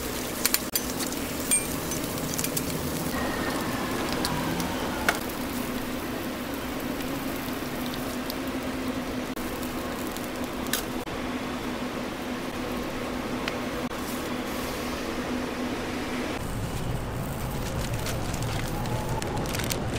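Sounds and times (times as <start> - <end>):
low hum: 0.8 - 19.9.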